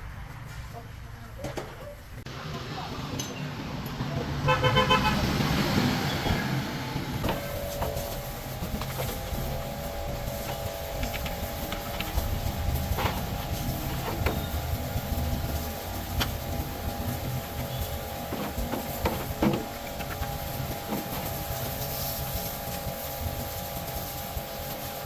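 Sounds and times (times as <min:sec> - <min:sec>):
machine hum: 0:02.3 - 0:25.0.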